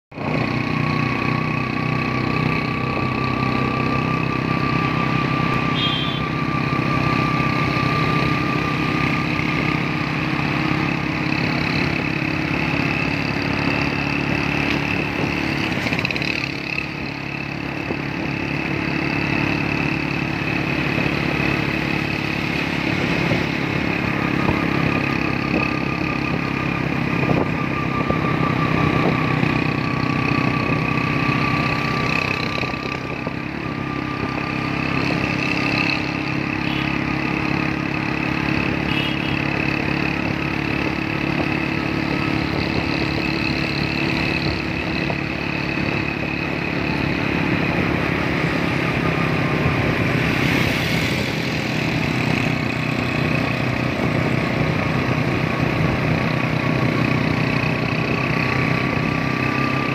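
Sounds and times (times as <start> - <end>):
motorcycle engine running: 0.1 - 59.9.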